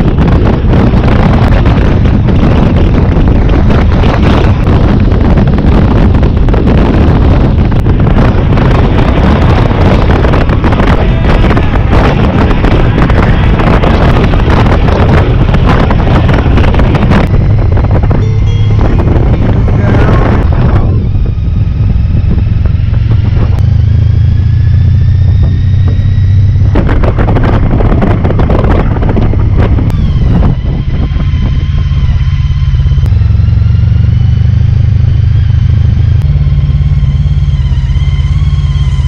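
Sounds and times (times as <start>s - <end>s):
faint whine: 0.0s - 34.0s
motorcycle engine running: 0.0s - 39.0s
wind buffeting microphone: 0.0s - 39.0s.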